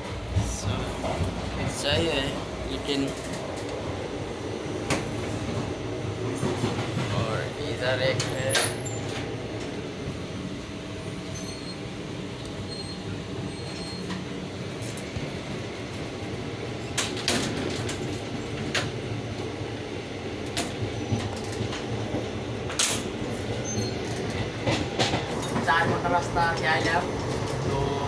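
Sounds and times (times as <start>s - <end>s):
train coach rumbling on rails: 0.0s - 28.0s.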